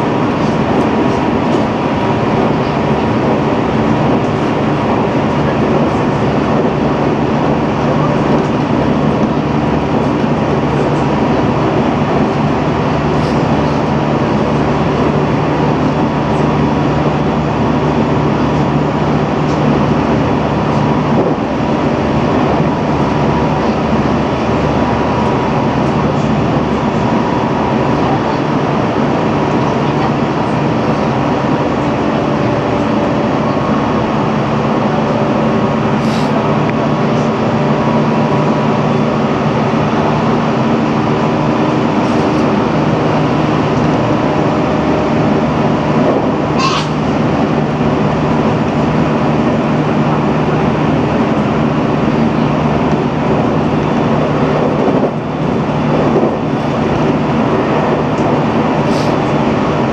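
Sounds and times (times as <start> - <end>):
train motor and gear hum: 0.0 - 59.9
train rail running noise: 0.0 - 59.9.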